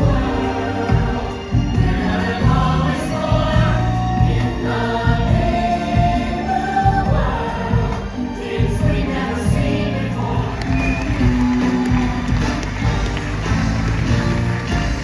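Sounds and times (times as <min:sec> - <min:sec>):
choir singing over a beat: 0:00.0 - 0:15.0.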